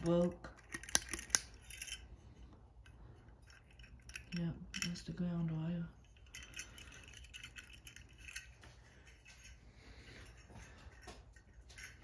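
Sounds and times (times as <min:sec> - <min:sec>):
clicks and metallic clinks: 0:00.0 - 0:02.2, 0:02.8 - 0:12.0
low steady hum: 0:00.0 - 0:12.0.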